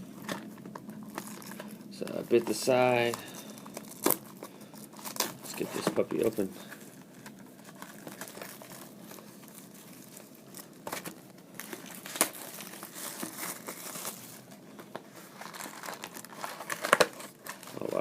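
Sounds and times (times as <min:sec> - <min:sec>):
wrapping crinkling and tearing: 0:00.0 - 0:18.0.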